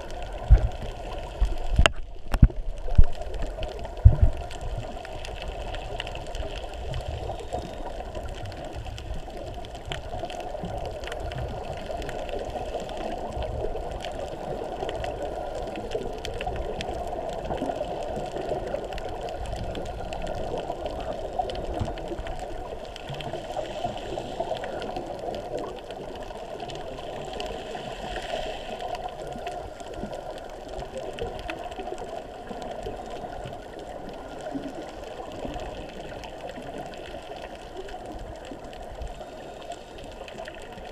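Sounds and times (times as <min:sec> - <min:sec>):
fine underwater crackling: 0:00.0 - 0:40.9
muffled underwater hum: 0:00.0 - 0:40.9.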